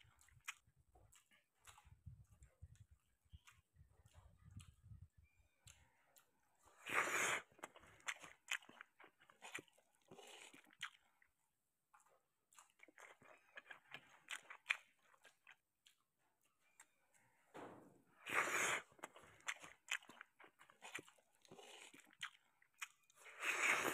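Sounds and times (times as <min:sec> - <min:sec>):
wet chewing and mouth sounds: 0:00.0 - 0:23.9.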